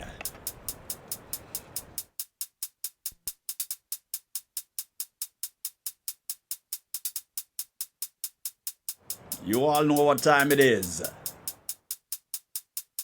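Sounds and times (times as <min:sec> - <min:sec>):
drum machine hi-hat ticking: 0:00.0 - 0:13.0.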